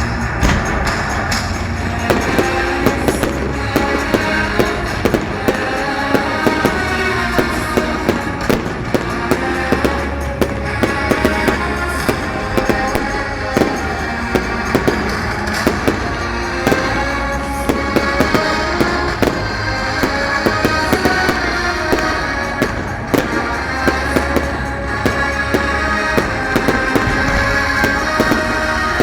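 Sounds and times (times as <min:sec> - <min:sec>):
fireworks bangs and crackles: 0:00.0 - 0:29.0
music: 0:00.0 - 0:29.0.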